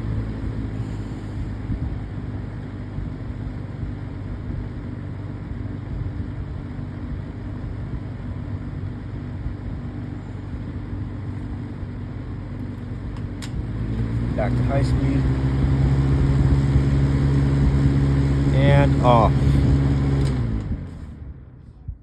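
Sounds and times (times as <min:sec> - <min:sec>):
box fan running: 0:00.0 - 0:22.0.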